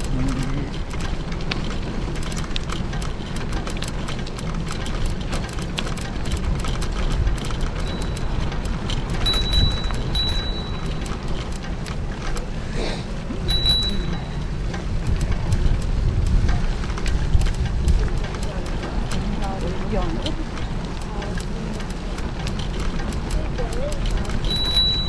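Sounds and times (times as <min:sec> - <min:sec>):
bicycle rattling clicks: 0:00.0 - 0:25.0
wind and tyres rumbling: 0:00.0 - 0:25.0.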